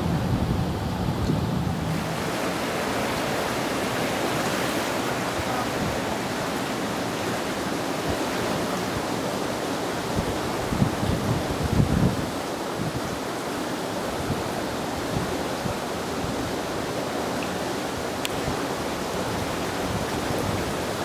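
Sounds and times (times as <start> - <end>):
fast river water rushing: 0.0 - 21.0.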